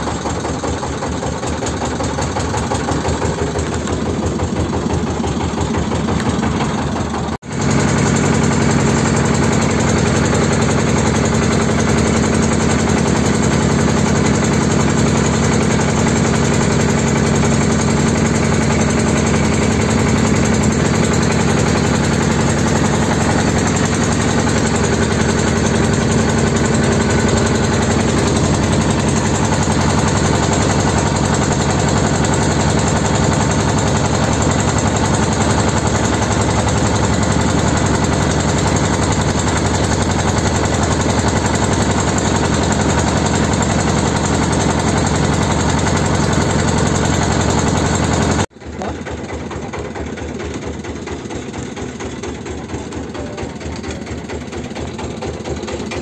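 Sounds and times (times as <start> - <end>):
motor engine running loudly: 0.0 - 56.0.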